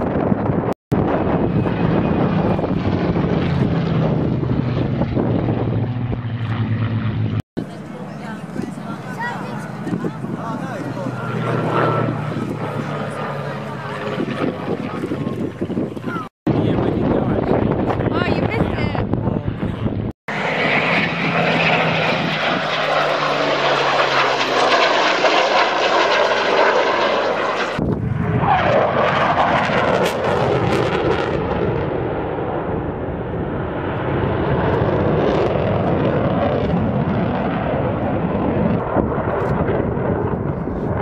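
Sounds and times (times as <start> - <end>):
jet roar: 0.0 - 41.0
propeller engine drone: 0.0 - 41.0.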